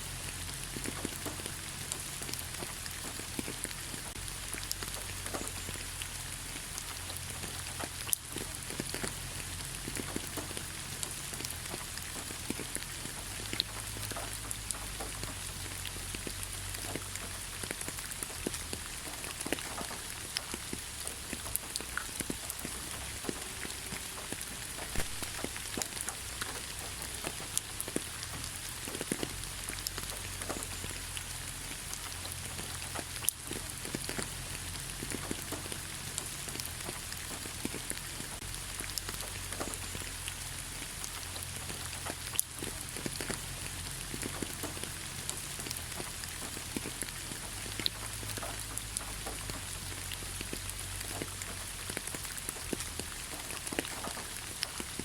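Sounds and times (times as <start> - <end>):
low steady rumble: 0.0 - 55.0
rain falling on leaves: 0.0 - 55.0
water drips: 0.1 - 55.0.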